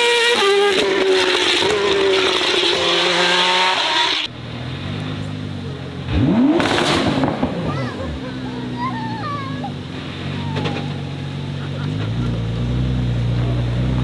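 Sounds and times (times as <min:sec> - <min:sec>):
lower engine running and revving: 0:00.0 - 0:14.0
racing car engine passing: 0:00.0 - 0:14.0.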